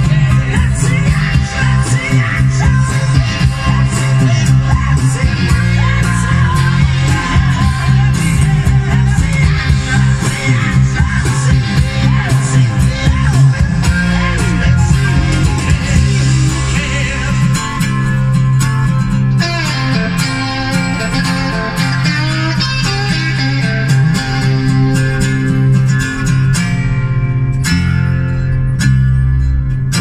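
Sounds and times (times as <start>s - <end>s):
guitar music with strong bass: 0.0s - 30.0s.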